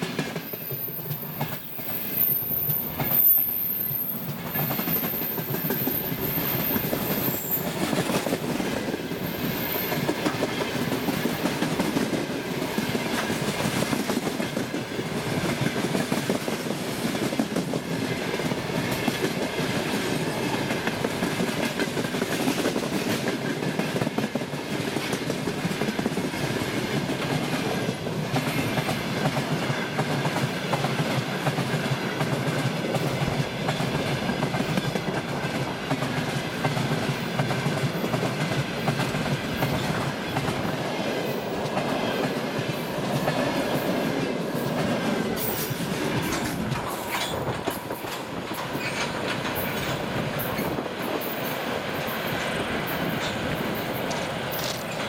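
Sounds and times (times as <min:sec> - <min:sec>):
freight train rumbling past: 0:00.0 - 0:55.0
wheels clickety-clack on rails: 0:00.0 - 0:55.0.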